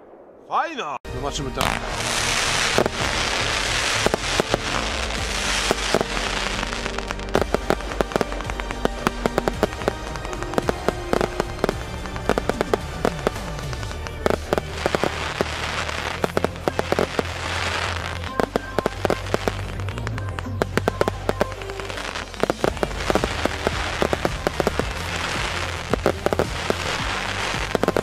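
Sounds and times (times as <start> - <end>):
fireworks bangs: 0.0 - 28.0
fireworks crackle: 1.1 - 28.0.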